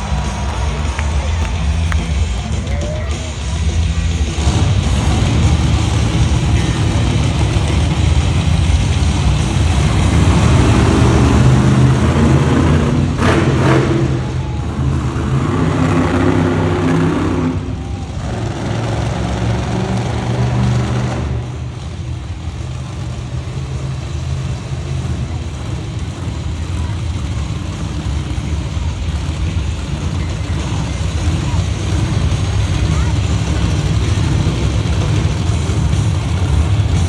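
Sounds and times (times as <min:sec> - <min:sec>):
monster truck engine revving: 0:00.0 - 0:37.0.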